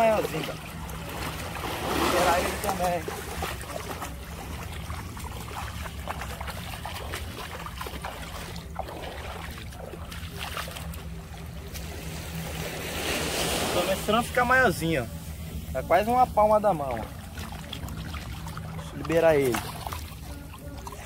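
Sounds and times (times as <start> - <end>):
steady low rumble: 0.0 - 21.0
water lapping and splashing: 0.0 - 21.0.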